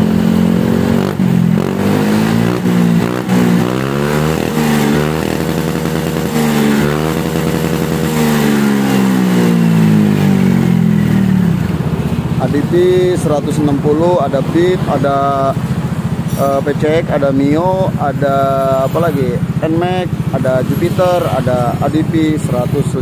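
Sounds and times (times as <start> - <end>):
scooter engine revving: 0.0 - 23.0.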